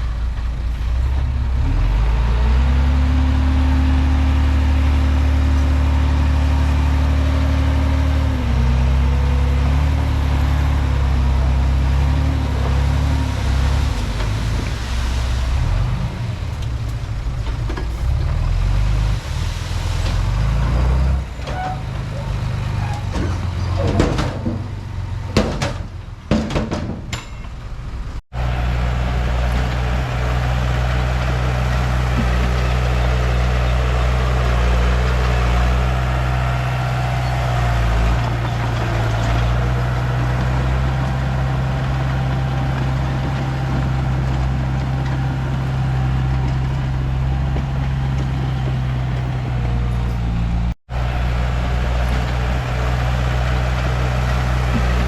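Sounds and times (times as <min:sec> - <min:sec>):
heavy diesel engine running: 0:00.0 - 0:26.1, 0:27.8 - 0:55.0.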